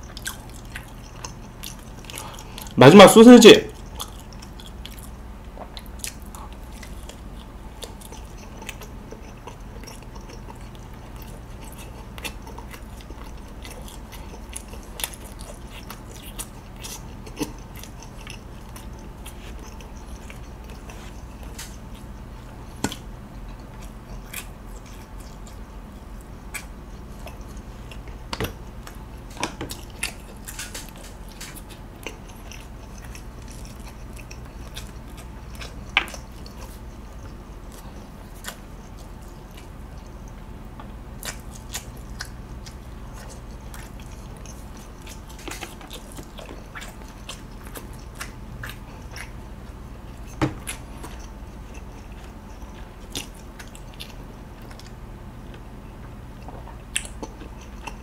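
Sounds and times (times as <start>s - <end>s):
biting and chewing sausage: 0.0s - 58.0s
low steady hum: 0.0s - 58.0s.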